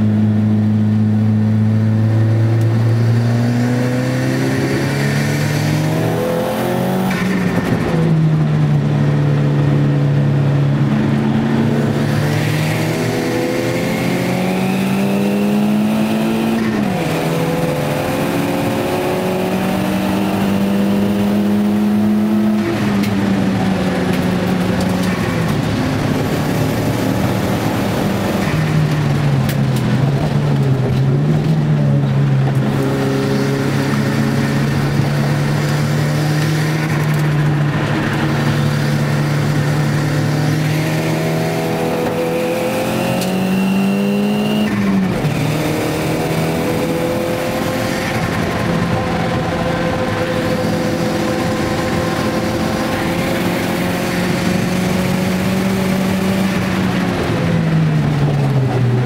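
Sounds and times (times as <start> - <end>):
car engine running hard: 0.0 - 59.0
high turbo whine: 0.0 - 59.0.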